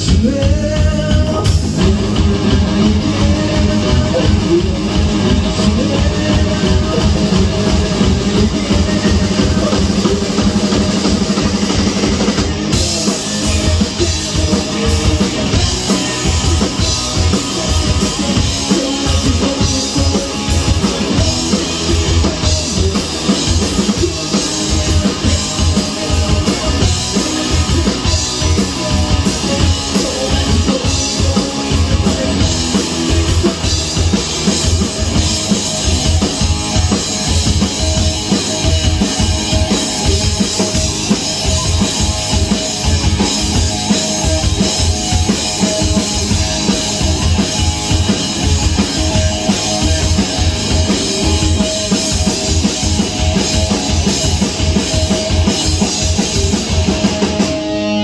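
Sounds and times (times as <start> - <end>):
drum kit beat: 0.0 - 58.0
electric guitar: 0.0 - 58.0.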